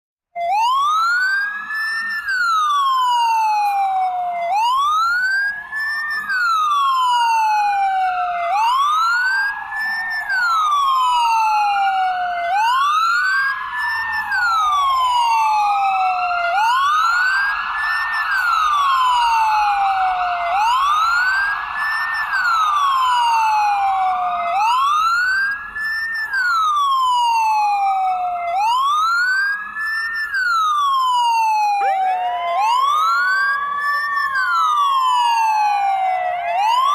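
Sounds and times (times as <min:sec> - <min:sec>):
ambulance siren wailing: 0:00.4 - 0:36.9.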